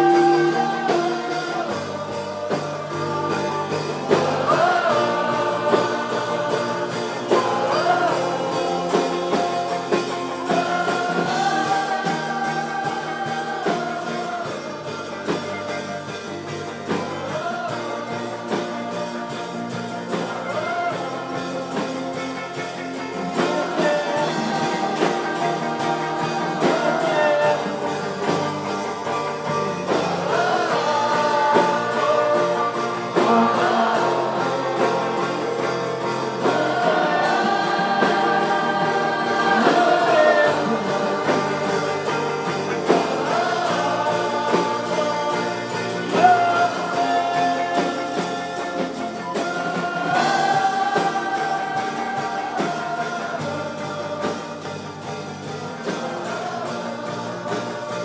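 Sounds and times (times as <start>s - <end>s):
acoustic and electric guitars: 0.0s - 58.0s
crowd singing along: 0.0s - 58.0s
man and woman singing lead: 0.0s - 58.0s.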